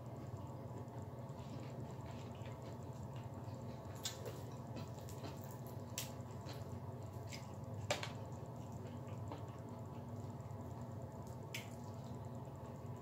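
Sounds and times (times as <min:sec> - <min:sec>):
steady low hum: 0:00.0 - 0:13.0
person chewing food: 0:00.2 - 0:13.0.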